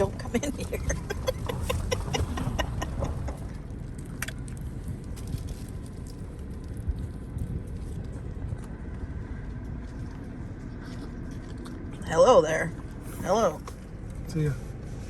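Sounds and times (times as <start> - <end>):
car idling heard from inside: 0.0 - 11.2, 11.8 - 15.0.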